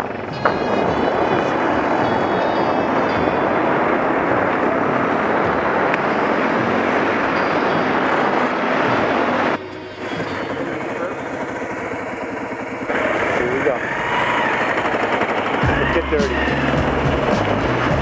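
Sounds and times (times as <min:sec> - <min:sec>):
road noise: 0:00.0 - 0:18.0.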